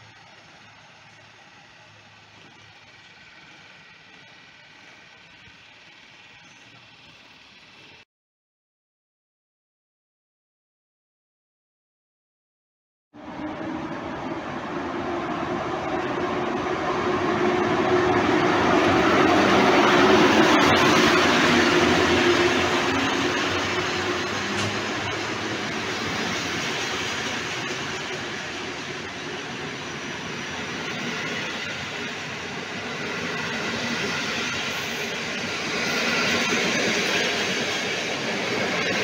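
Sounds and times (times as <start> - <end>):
coaches rolling on rails: 0.0 - 8.0, 13.2 - 39.0
electric locomotive passing: 0.0 - 8.0, 13.2 - 39.0.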